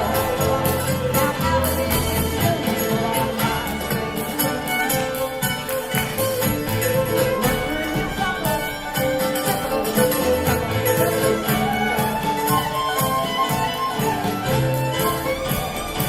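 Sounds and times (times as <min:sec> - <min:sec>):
dance band playing: 0:00.0 - 0:16.0
fiddle melody: 0:00.0 - 0:16.0.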